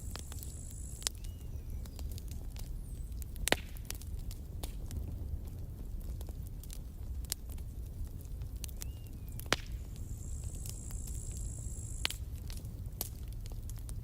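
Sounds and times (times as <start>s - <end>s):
campfire crackling and snapping: 0.0s - 14.0s
low rumble of burning fire: 0.0s - 14.0s.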